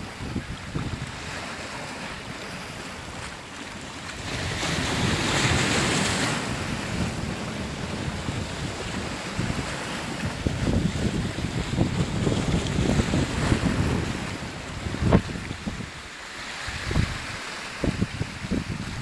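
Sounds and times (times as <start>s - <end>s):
wind buffeting microphone: 0.0s - 3.4s, 4.1s - 19.0s
sea waves breaking on rocks: 0.0s - 19.0s.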